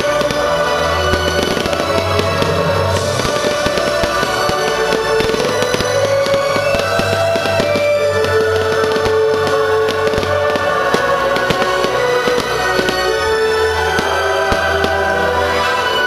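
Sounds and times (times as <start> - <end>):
fireworks crackling and popping: 0.0 - 16.0
loud show music: 0.0 - 16.0.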